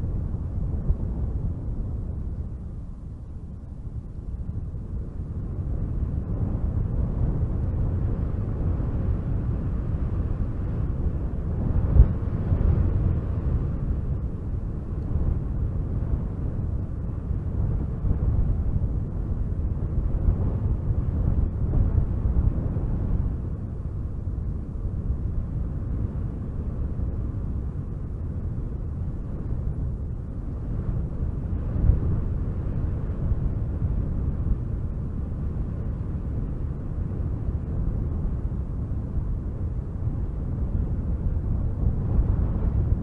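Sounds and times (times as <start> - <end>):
wind blowing in rumbling gusts: 0.0 - 43.0.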